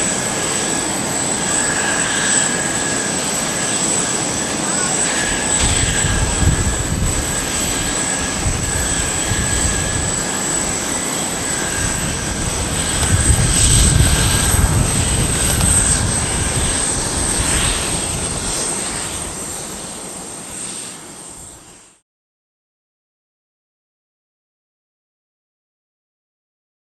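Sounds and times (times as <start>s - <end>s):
jet engines low rumble: 0.0s - 22.0s.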